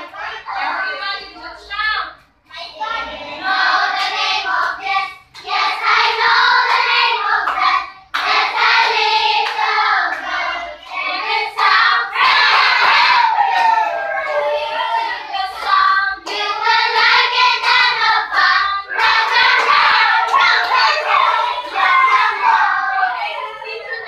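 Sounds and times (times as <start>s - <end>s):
young children singing in unison: 2.8s - 13.4s, 14.3s - 23.8s.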